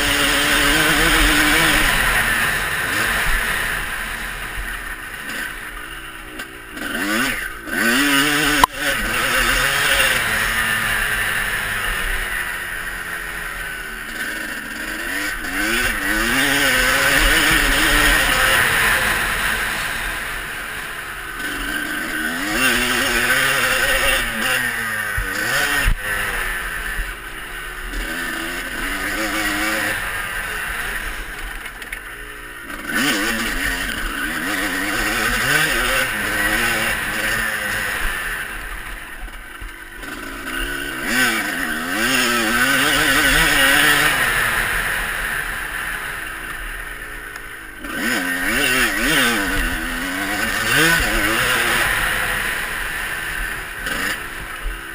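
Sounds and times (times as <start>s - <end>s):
motocross bikes revving: 0.0s - 54.9s.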